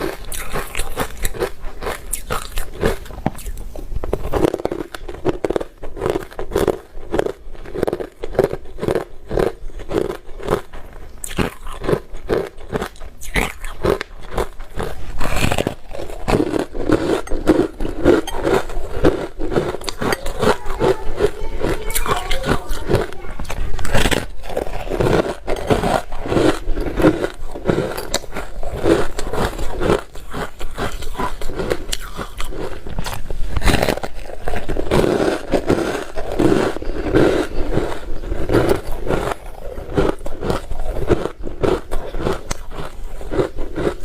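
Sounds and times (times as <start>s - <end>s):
ice crunching being chewed: 0.0s - 44.0s.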